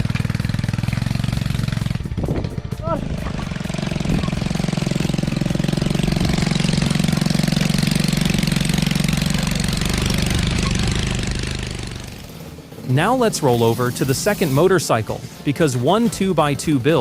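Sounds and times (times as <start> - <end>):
small motorcycle engine running: 0.0 - 14.8.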